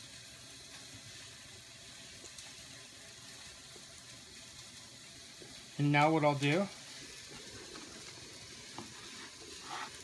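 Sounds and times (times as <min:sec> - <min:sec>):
meat sizzling: 0:00.0 - 0:10.0.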